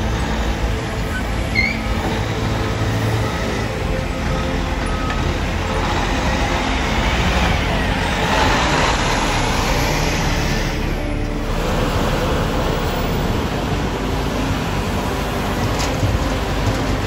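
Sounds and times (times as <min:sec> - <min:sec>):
truck diesel engine passing: 0:00.0 - 0:17.0.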